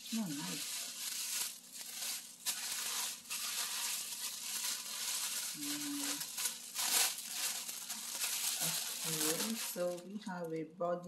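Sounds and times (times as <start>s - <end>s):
tissue paper rustling and crinkling: 0.0s - 10.1s.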